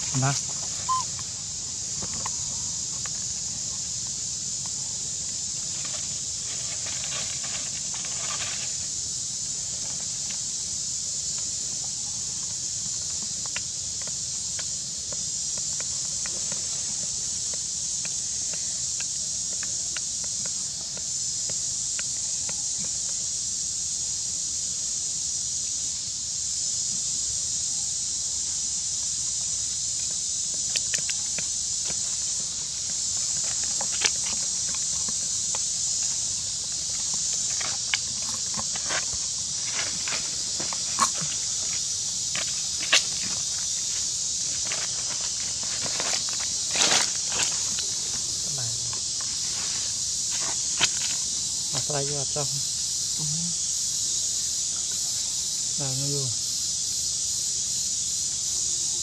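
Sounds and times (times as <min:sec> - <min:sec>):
high-pitched insect drone: 0:00.0 - 0:59.0
faint ticks and rustles: 0:00.1 - 0:24.8, 0:28.8 - 0:56.6.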